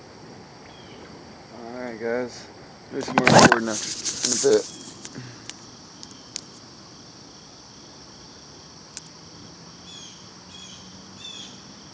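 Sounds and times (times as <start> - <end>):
insects droning: 0.0 - 11.9.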